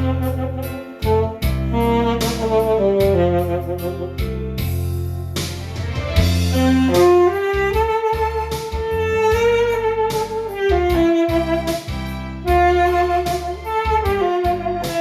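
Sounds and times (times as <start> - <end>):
lead melody instrument sliding notes: 0.0 - 5.3, 6.4 - 15.0
backing track with steady bass: 0.0 - 15.0.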